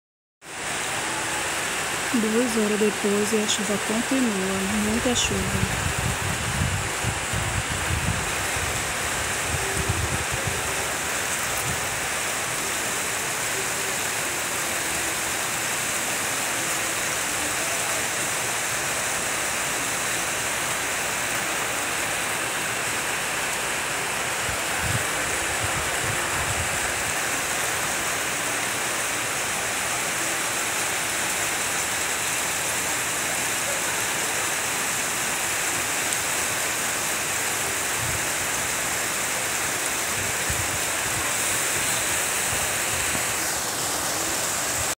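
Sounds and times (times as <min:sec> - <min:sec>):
heavy rain falling: 0:00.4 - 0:44.9.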